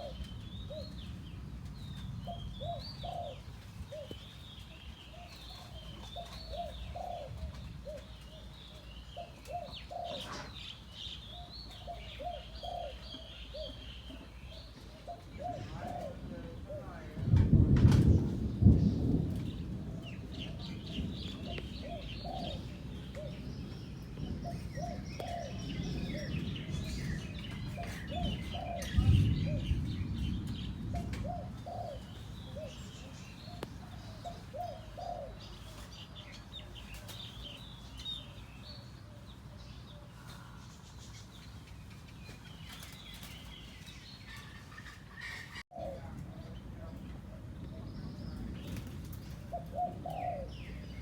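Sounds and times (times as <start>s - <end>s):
dove cooing: 0.0s - 1.3s, 1.9s - 40.8s, 44.3s - 51.0s
small birds chirping: 0.0s - 17.4s, 18.0s - 51.0s.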